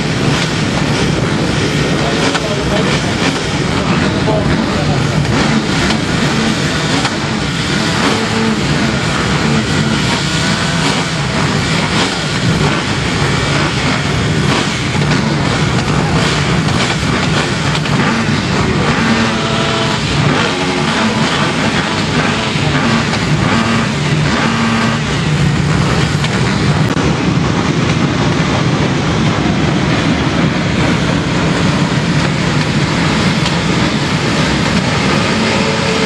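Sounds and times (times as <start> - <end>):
motocross engines revving: 0.0 - 36.0.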